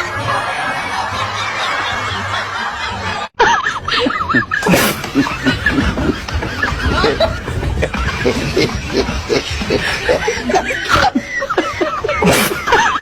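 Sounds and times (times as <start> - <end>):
giggling: 0.0 - 13.0
people laughing: 0.0 - 13.0.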